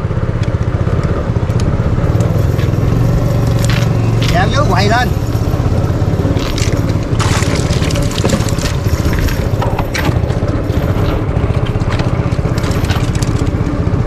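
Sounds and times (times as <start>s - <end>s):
small engine throbbing: 0.0s - 14.0s.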